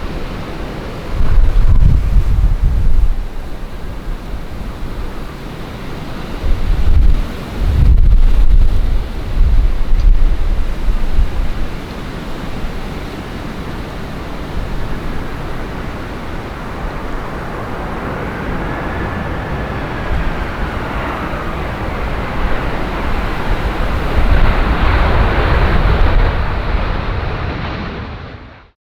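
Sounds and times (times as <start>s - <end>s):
wind buffeting microphone: 0.0s - 28.2s
jet airliner engine whine: 0.0s - 28.8s.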